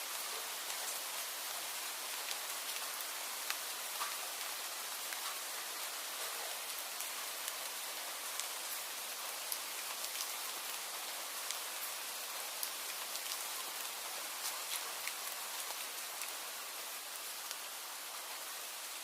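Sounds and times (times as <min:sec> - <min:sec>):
rain hissing: 0:00.0 - 0:19.0
raindrops ticking on a surface: 0:00.0 - 0:19.0.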